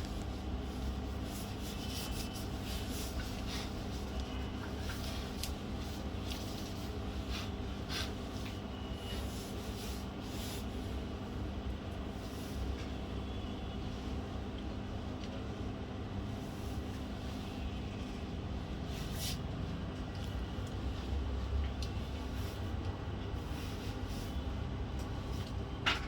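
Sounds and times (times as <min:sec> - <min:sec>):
steady low hum: 0:00.0 - 0:25.8.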